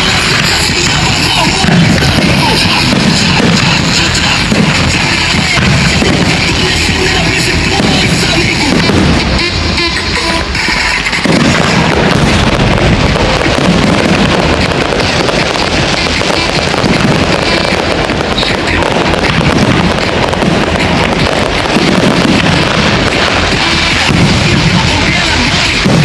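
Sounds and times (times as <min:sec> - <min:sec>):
fireworks rumbling and crackling: 0:00.0 - 0:26.0.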